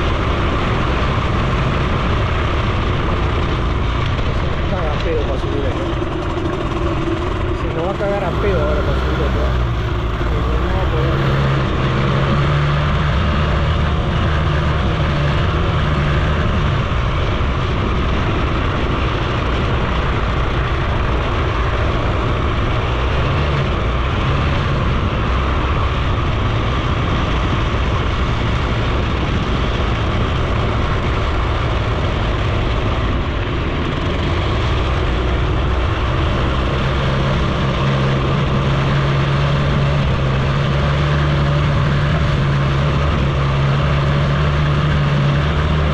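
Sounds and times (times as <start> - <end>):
moped engine running: 0.0 - 45.9
road noise: 0.0 - 45.9
wind noise: 0.0 - 45.9.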